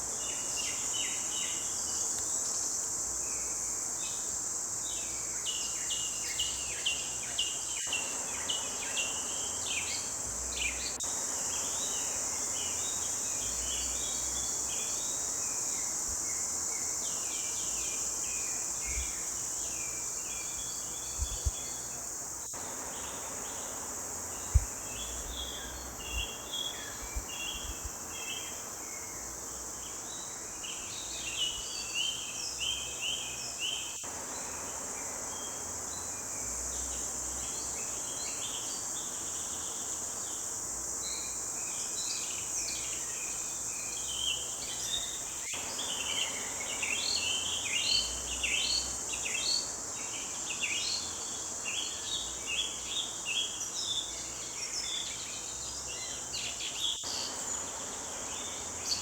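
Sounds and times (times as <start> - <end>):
high-pitched insect trill: 0.0 - 59.0
songbirds chirping: 0.0 - 59.0.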